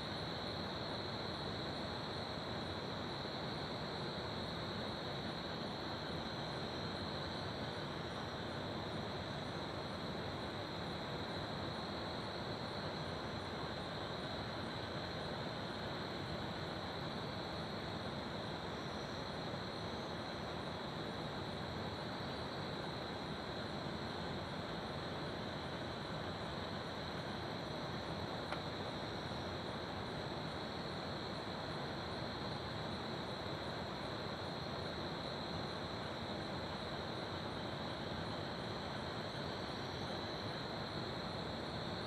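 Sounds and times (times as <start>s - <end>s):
cricket trill: 0.0s - 42.0s.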